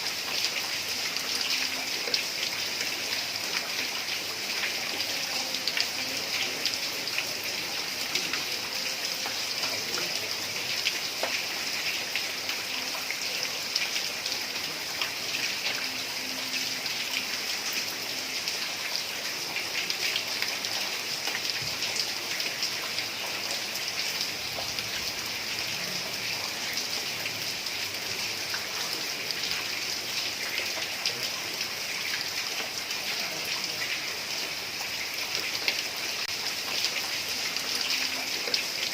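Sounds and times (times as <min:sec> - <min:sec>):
heavy rain on a tiled roof: 0:00.0 - 0:38.9.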